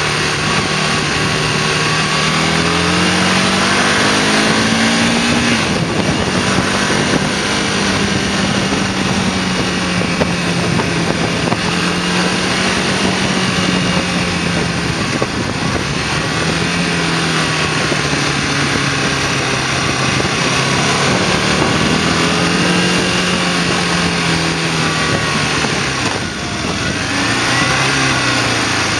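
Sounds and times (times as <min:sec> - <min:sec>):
motorcycle engine running: 0:00.0 - 0:28.9
wind rushing over microphone: 0:00.0 - 0:28.9.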